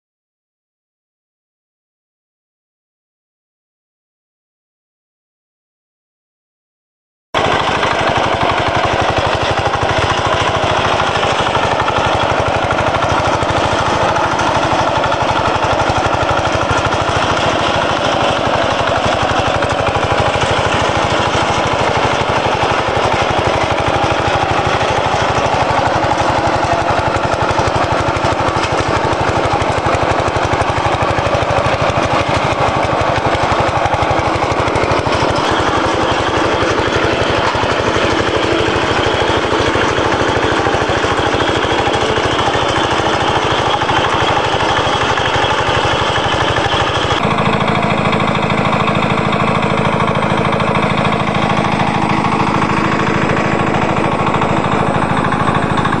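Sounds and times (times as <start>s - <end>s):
rotary tiller pounding soil: 7.4s - 56.0s
tractor engine under load: 7.4s - 56.0s.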